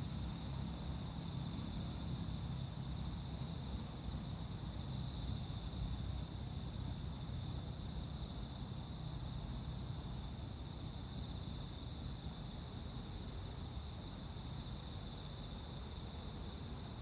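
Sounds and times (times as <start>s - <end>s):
insects trilling: 0.0s - 17.0s
low rumbling background noise: 0.0s - 17.0s.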